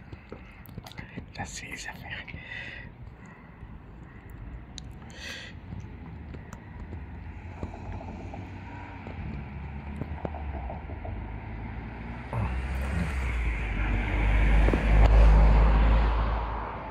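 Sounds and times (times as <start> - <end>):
road vehicle passing: 2.9 - 16.9
wind rumble on microphone: 2.9 - 16.9.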